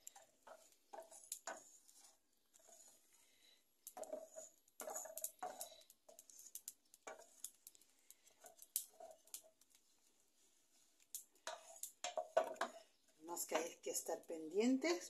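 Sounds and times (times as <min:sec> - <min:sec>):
wooden spoon scraping spices in pan: 0:00.0 - 0:15.0.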